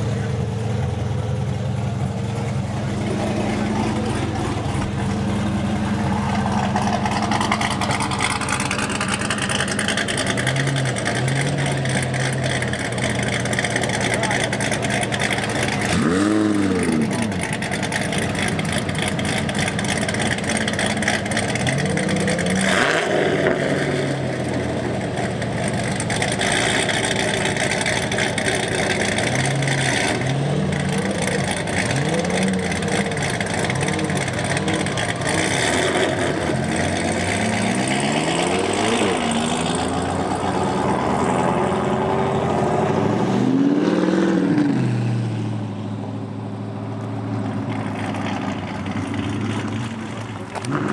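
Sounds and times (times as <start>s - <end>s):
engine throttle blips: 0.0s - 41.2s
car engines idling: 0.0s - 50.9s.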